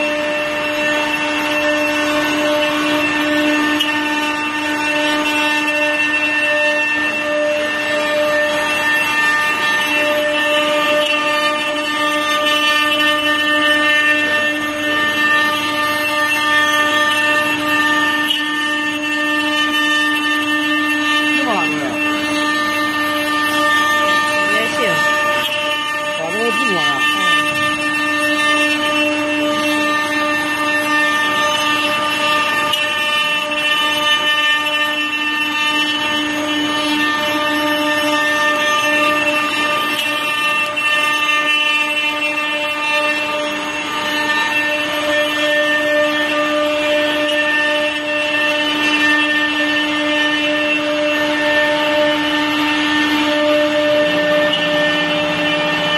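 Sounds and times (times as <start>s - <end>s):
router spindles high-pitched whine: 0.0s - 55.9s.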